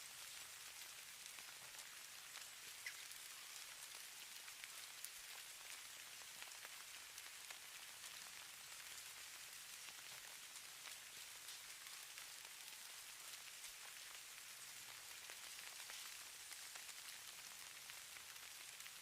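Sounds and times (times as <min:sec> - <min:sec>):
falling snow patter: 0:00.0 - 0:19.0.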